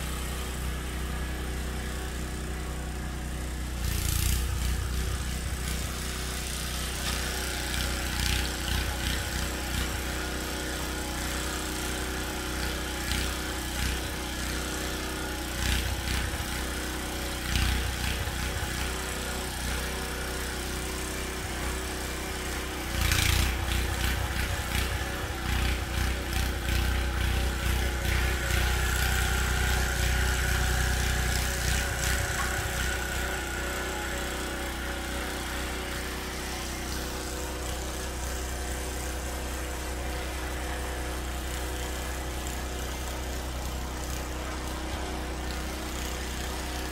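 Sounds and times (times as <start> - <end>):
snow blower engine running: 0.0 - 46.9.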